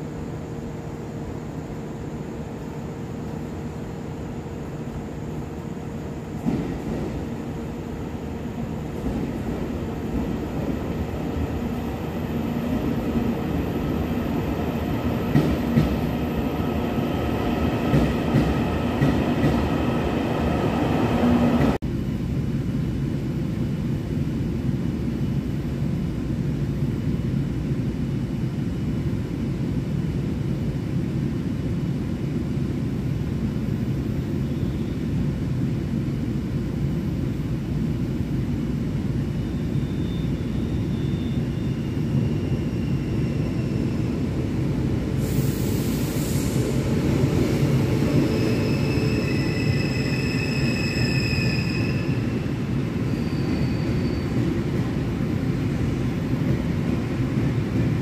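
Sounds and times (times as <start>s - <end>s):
low hum inside train car: 0.0s - 58.0s
train rumbling: 0.0s - 58.0s.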